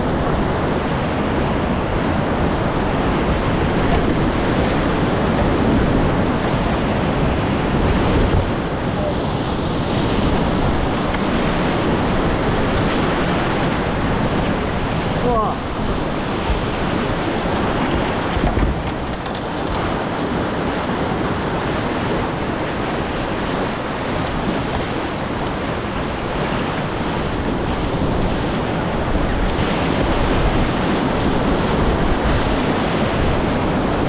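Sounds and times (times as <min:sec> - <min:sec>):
river rushing and splashing: 0:00.0 - 0:34.0
wind buffeting microphone: 0:00.0 - 0:34.0.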